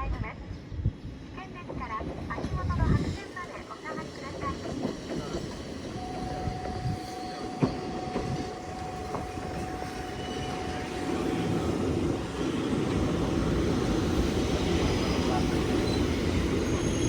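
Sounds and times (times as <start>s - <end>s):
train rumble: 0.0s - 17.0s
electric train whine: 2.7s - 17.0s.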